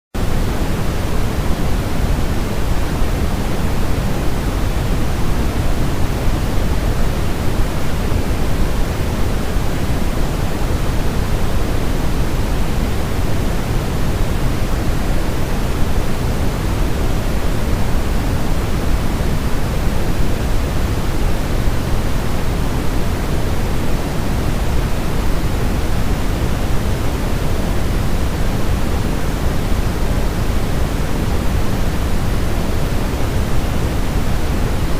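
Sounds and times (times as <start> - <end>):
pink noise hiss: 0.2 - 34.9.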